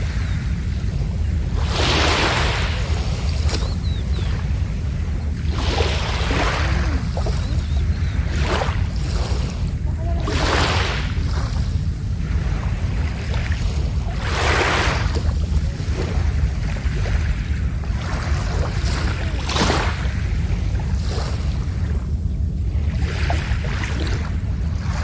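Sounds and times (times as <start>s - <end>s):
waves washing onto sand: 0.0s - 25.0s
wind rumble on microphone: 0.0s - 25.0s.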